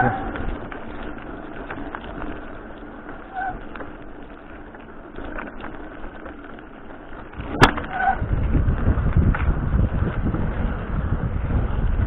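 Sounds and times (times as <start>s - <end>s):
bicycle tyres and drivetrain hiss: 0.0s - 12.0s.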